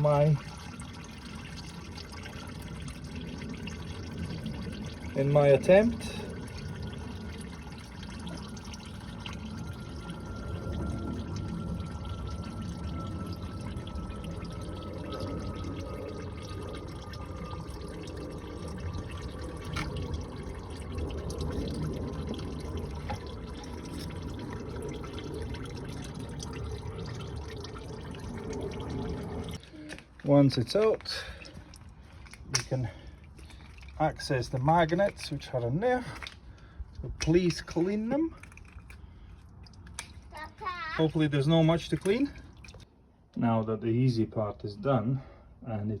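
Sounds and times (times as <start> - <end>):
oil dripping: 0.0 - 42.9.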